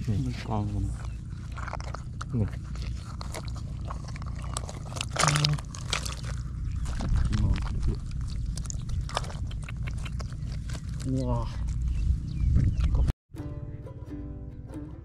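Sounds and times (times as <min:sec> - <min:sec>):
low rumble: 0:00.0 - 0:13.1
soil crunching and scraping: 0:00.0 - 0:13.1.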